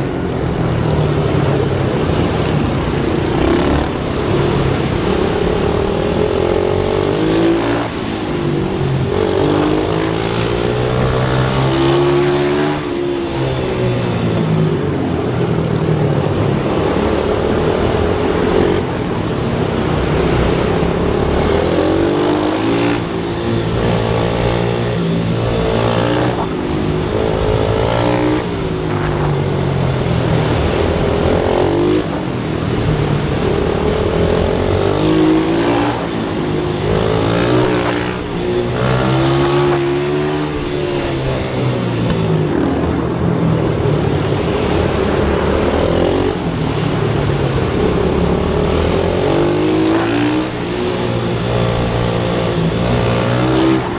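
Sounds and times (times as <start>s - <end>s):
motorbike engine revving: 0.0s - 53.9s.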